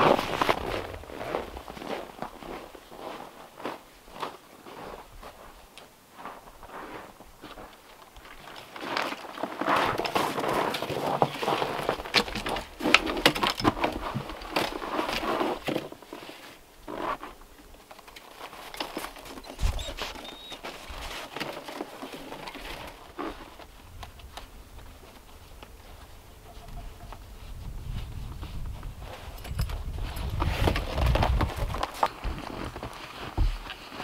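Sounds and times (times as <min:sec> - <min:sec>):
snowshoes knocking and scuffing: 0:00.0 - 0:05.5, 0:08.3 - 0:17.4, 0:18.3 - 0:34.0
footsteps in packed snow: 0:00.0 - 0:12.9, 0:18.3 - 0:34.0.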